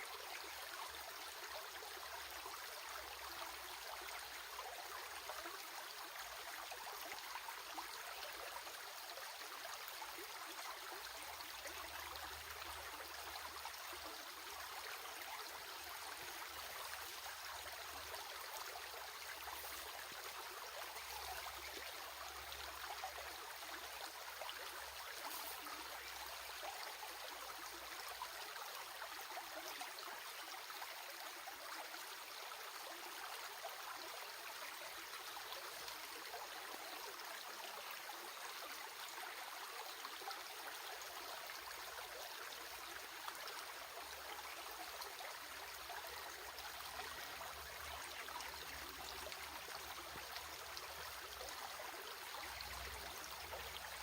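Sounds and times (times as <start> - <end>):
stream of water trickling: 0.0 - 54.0.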